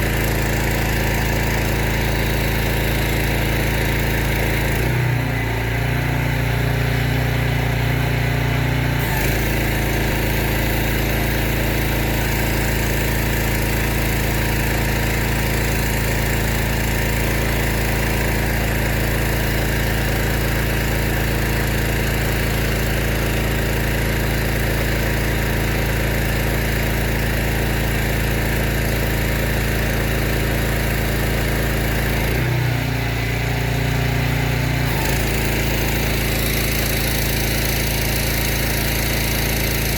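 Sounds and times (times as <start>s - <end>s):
pressure washer petrol engine running: 0.0s - 39.9s.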